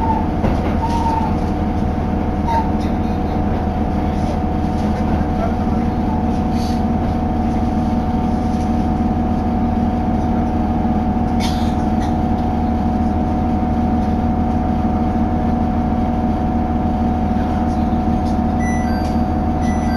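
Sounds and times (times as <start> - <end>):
railcar engine and wheel drone: 0.0 - 19.9.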